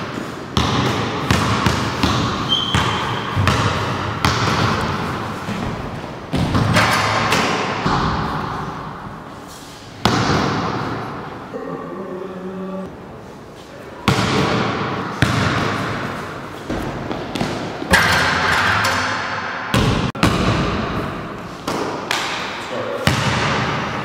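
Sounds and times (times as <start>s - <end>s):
basketball bouncing in a hall: 0.0s - 9.3s, 9.9s - 12.3s, 14.0s - 24.0s.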